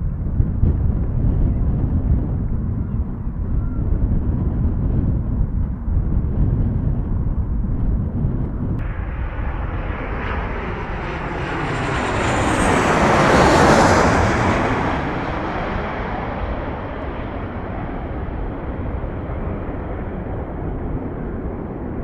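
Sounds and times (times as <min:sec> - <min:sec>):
airliner passing overhead: 0:00.0 - 0:22.0.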